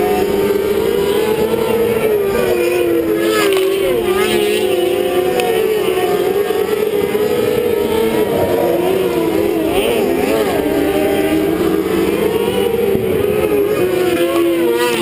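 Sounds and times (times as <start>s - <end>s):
kart engines racing: 0.0s - 15.0s.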